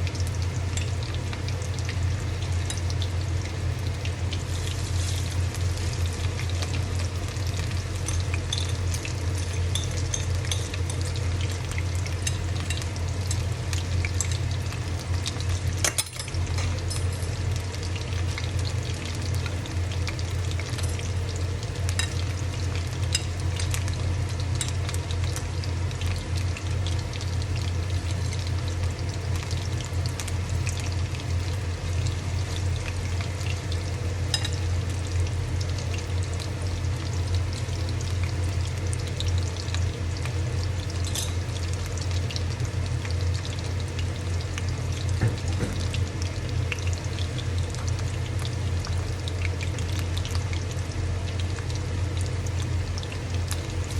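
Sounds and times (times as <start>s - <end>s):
food deep-frying in hot oil: 0.0s - 53.9s
oil crackling and popping: 0.0s - 53.9s.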